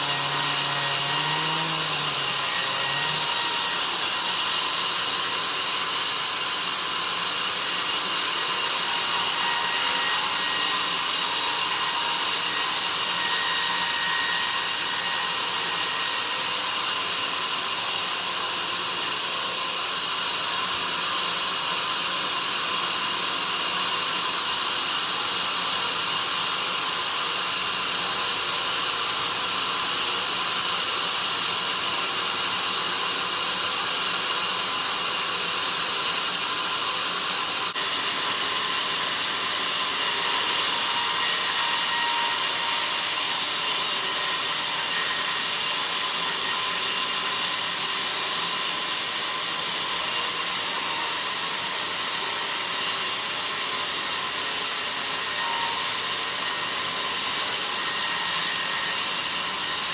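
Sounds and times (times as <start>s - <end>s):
band saw cutting through log: 0.0s - 22.8s, 33.3s - 59.9s.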